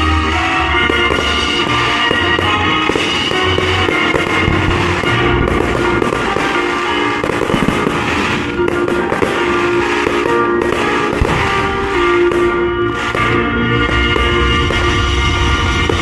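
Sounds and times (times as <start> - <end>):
classical music: 0.0 - 16.0
fireworks cracking and popping: 0.0 - 16.0.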